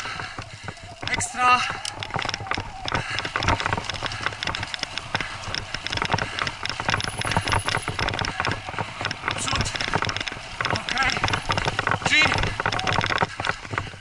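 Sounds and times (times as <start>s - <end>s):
bicycle rattling on dirt trail: 0.0s - 14.0s.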